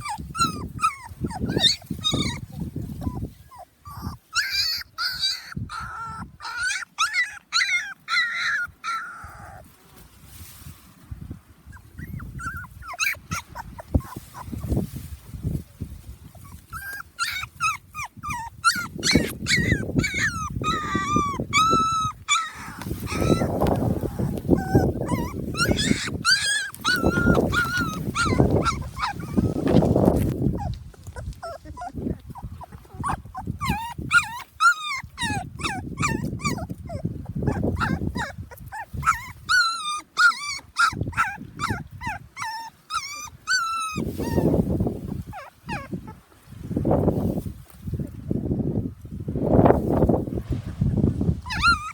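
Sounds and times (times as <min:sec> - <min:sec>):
puppies whimpering and yelping: 0:00.0 - 0:09.8, 0:11.7 - 0:14.9, 0:16.2 - 0:46.3, 0:51.2 - 0:51.9.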